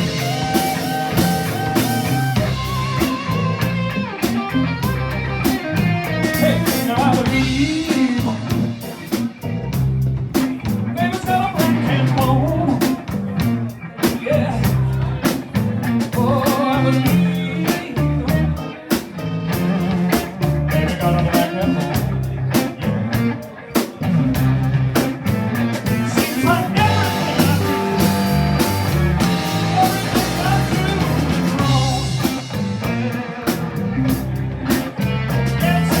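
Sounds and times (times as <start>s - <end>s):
blues band playing: 0.0s - 36.0s.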